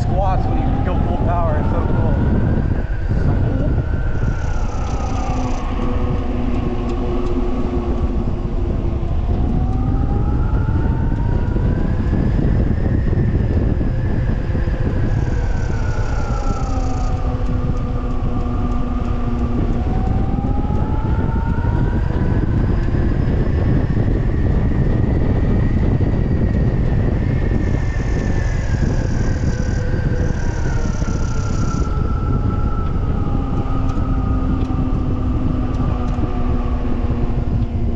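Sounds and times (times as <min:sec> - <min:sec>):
electric motor whine: 0:00.0 - 0:37.9
wind buffeting microphone: 0:00.0 - 0:37.9.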